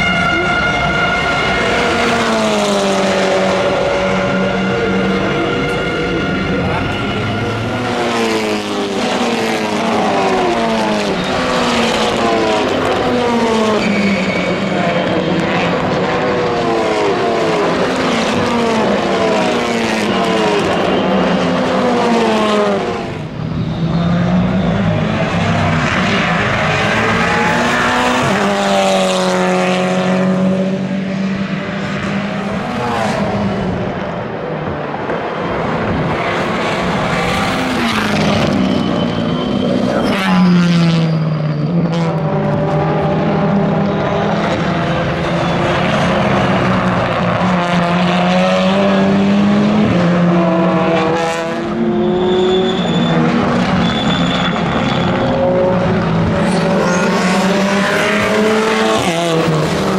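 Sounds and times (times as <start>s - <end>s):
racing car engines shifting gears: 1.2s - 59.9s.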